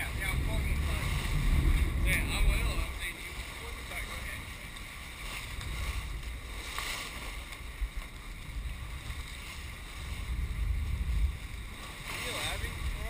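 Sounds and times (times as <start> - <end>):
low boat engine rumble: 0.0 - 13.0
water rushing along hull: 0.0 - 13.0
wind buffeting microphone: 0.0 - 13.0.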